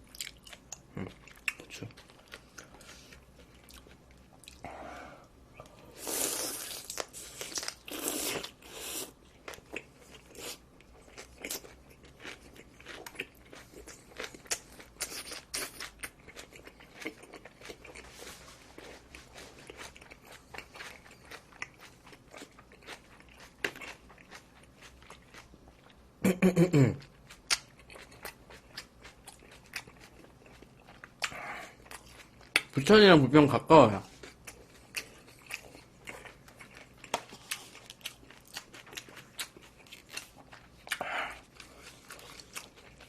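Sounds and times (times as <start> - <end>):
chewing and crunching: 0.0 - 4.7, 5.6 - 26.0, 27.0 - 33.0, 34.0 - 43.0.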